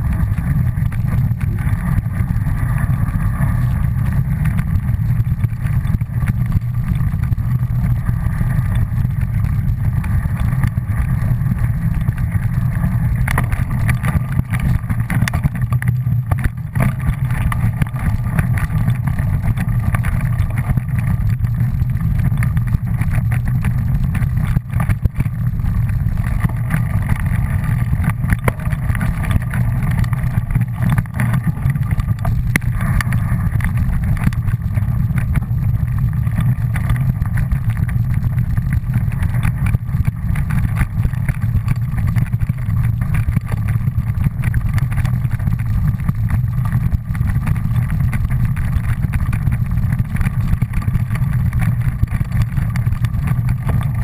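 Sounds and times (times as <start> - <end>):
vehicle rumbling on dirt trail: 0.0 - 54.0.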